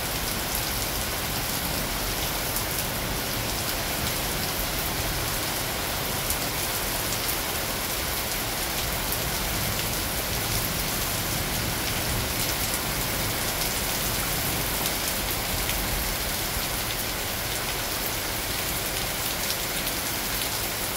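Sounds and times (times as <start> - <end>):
rain falling on foliage: 0.0 - 20.9.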